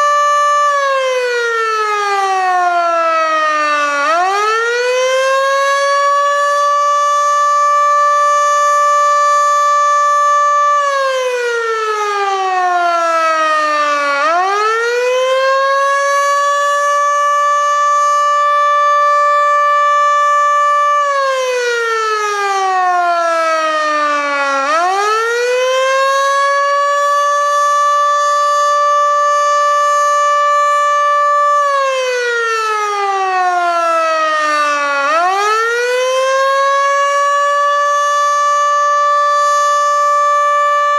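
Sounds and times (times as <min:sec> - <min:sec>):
warning siren rising and falling: 0:00.0 - 0:40.9.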